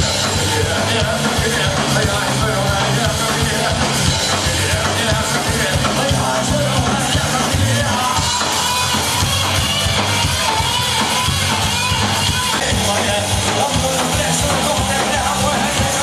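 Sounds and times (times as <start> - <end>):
live punk rock band: 0.0 - 16.0.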